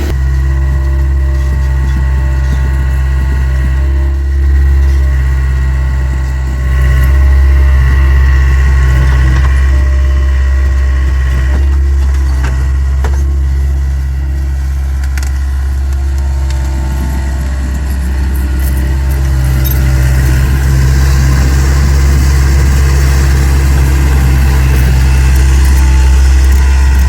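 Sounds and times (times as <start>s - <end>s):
skid steer engine running: 0.0s - 27.0s
steady whine: 0.0s - 27.0s.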